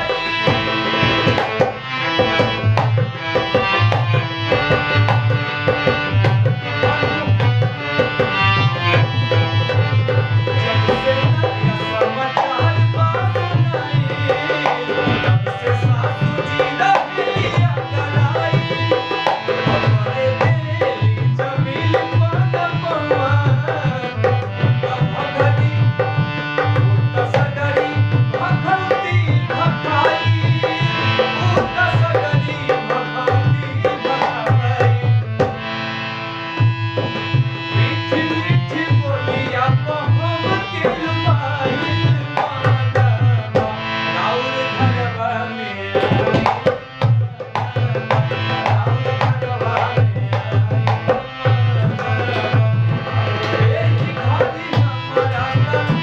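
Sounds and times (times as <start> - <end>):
hand drum fast rhythm: 0.0 - 35.6, 36.6 - 43.8, 46.0 - 56.0
man singing: 0.0 - 35.8, 37.0 - 56.0
harmonium: 0.0 - 56.0.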